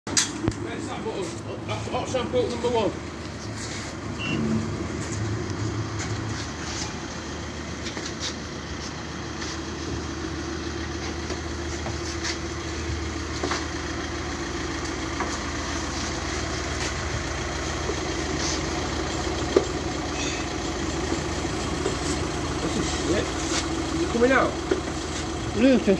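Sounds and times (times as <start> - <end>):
pressure pump humming: 0.3 - 25.9.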